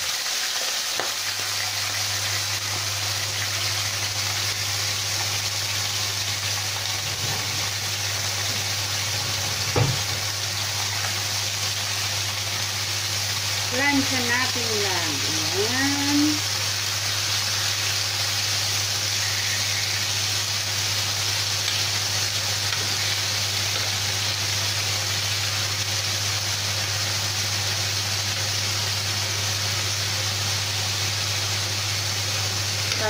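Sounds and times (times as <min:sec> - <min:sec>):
chicken sizzling in oil: 0:00.0 - 0:33.0.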